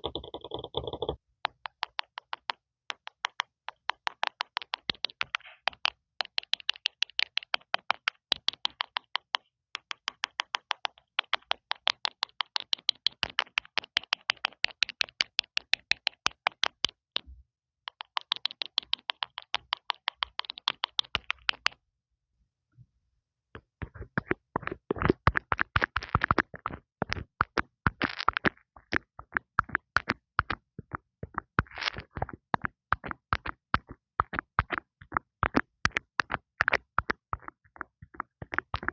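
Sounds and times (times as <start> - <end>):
fingertips tapping on microphone: 0.0 - 21.8, 23.6 - 38.9.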